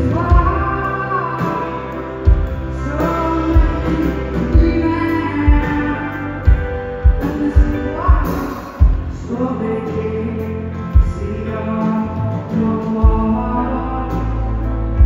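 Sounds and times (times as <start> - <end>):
electric guitar: 0.0 - 15.0
keyboard: 0.0 - 15.0
woman singing: 0.0 - 15.0.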